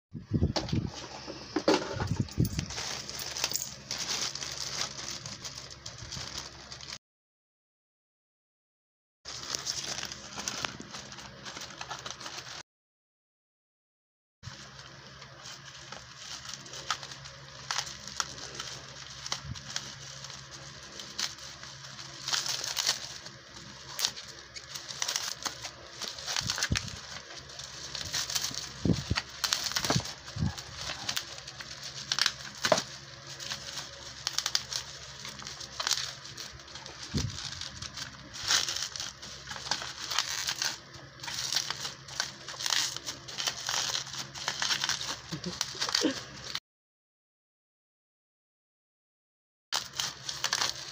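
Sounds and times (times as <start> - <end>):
bubble wrap crinkling: 0.8 - 7.0, 9.3 - 12.6, 14.5 - 46.6, 49.8 - 50.9.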